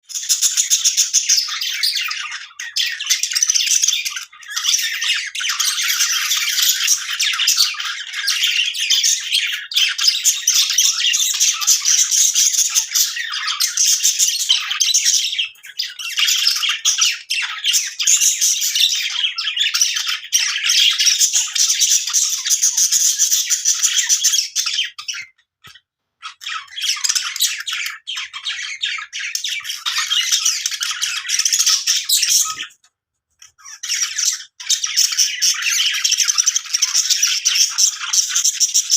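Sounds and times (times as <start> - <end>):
budgies chirping and squawking: 0.0 - 38.9.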